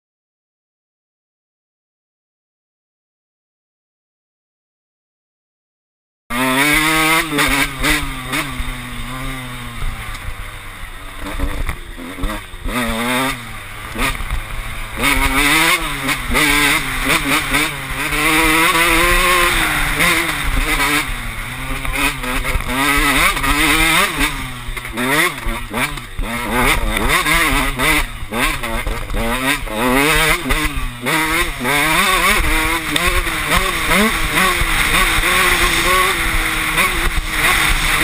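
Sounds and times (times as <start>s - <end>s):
motocross engine revving: 6.3s - 38.0s.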